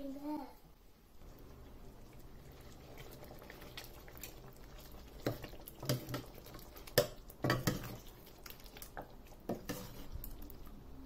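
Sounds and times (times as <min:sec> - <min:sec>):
gravy bubbles bursting: 0:01.2 - 0:10.8
ladle stirring in a pan: 0:01.2 - 0:10.9.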